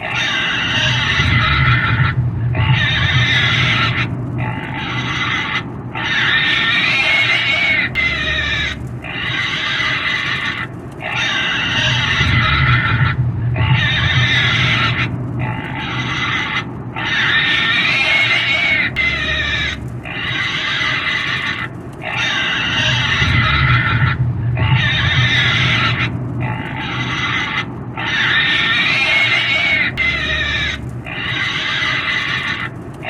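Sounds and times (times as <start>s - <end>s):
pig squealing: 0.0s - 32.8s.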